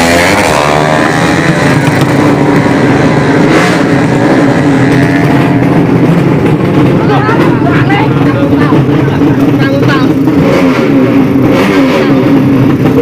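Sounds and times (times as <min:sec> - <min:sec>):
motorcycle engines at high revs: 0:00.0 - 0:13.0.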